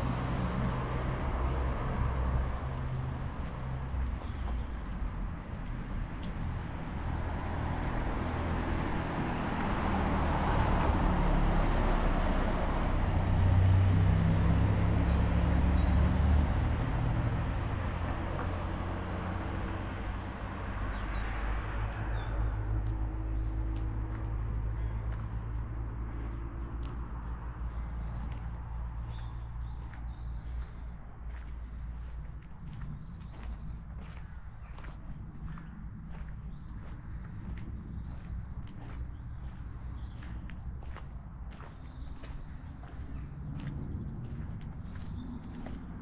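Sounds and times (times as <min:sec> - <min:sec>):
car passing: 0:00.0 - 0:46.0.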